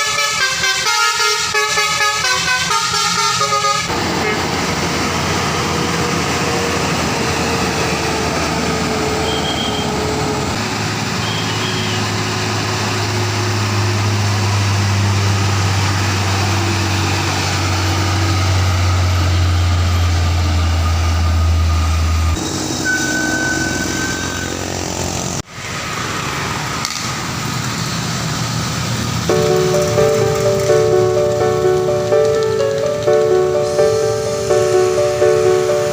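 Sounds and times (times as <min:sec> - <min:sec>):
heavy diesel vehicles passing: 0:00.0 - 0:35.9
deep engine drone: 0:02.5 - 0:25.5, 0:28.6 - 0:35.9.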